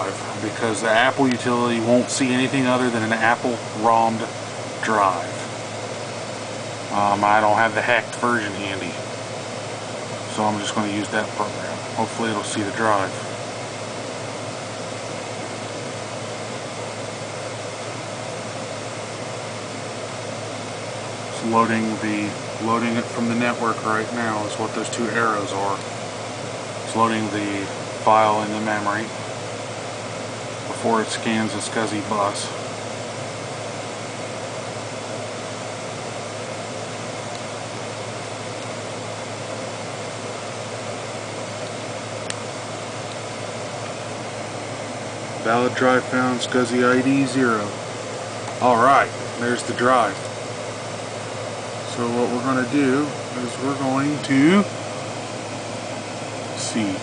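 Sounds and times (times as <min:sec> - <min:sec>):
air conditioner hiss: 0:00.0 - 0:57.0.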